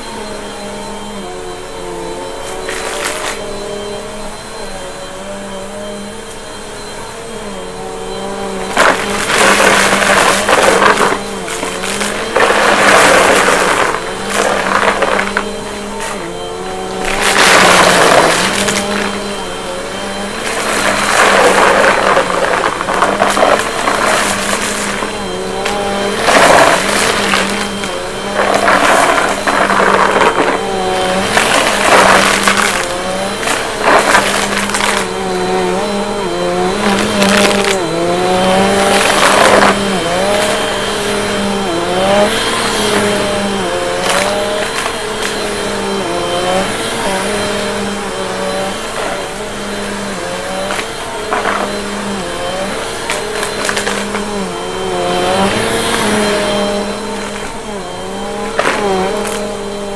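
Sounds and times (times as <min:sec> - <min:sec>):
vacuum cleaner on carpet: 0:00.0 - 0:59.9
debris rattling into vacuum: 0:08.6 - 0:59.8.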